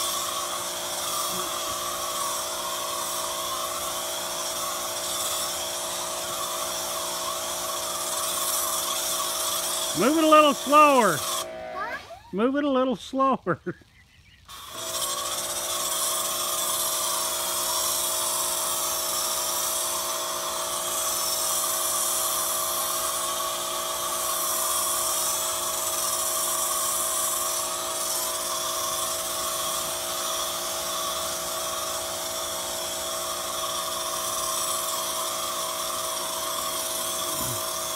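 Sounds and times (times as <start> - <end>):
foam spray hissing: 0.0 - 12.2, 14.6 - 37.9
pressure washer motor whine: 0.0 - 13.1, 14.5 - 37.9.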